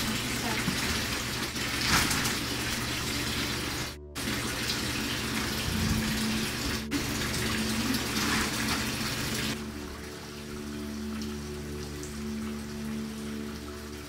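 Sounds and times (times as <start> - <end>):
water running into a tub: 0.0 - 14.0.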